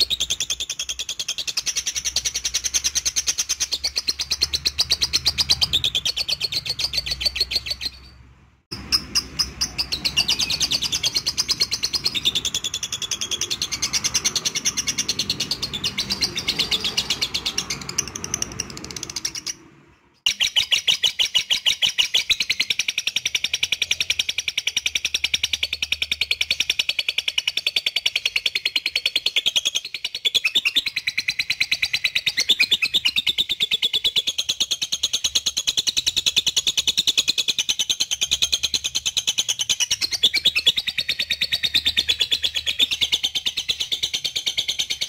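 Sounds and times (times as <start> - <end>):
lovebird chattering trill: 0.0 - 45.0.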